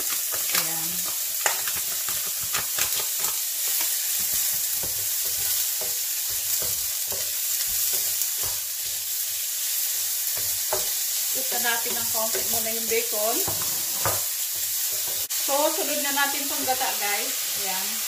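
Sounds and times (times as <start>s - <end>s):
spatula scraping and tapping pan: 0.0s - 11.0s, 11.7s - 15.3s
bacon and onions sizzling: 0.0s - 18.0s.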